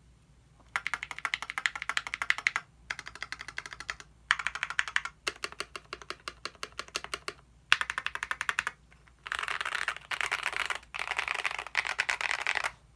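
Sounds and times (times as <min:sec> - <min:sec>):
rapid mechanical keyboard typing: 0:00.7 - 0:12.7.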